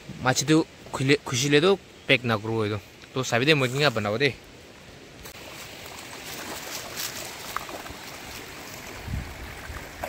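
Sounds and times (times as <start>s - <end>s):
rocky stream flowing: 0.2s - 10.0s.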